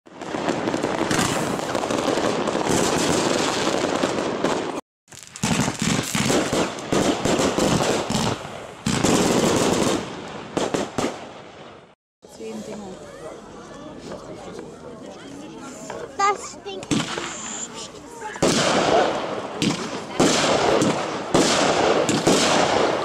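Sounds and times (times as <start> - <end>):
fireworks crackling and banging: 0.1 - 12.0, 15.8 - 23.0.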